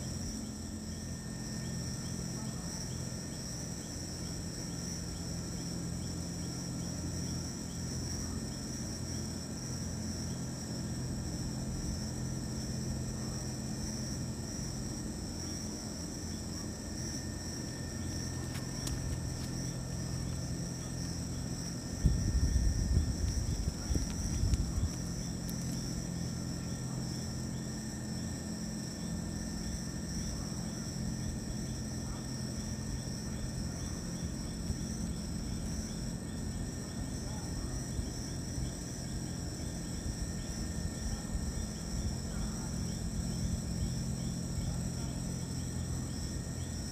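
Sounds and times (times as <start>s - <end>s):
insect chorus trilling: 0.0s - 46.9s.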